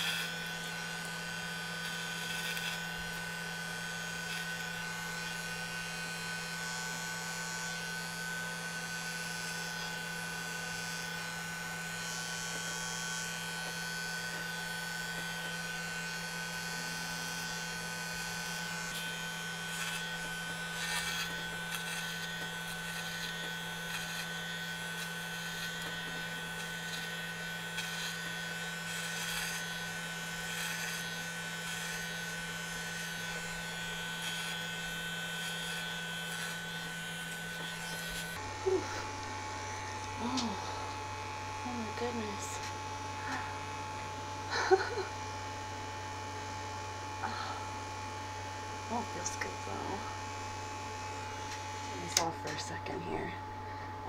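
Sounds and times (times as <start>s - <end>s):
electric hair clippers buzzing: 0.0s - 54.0s.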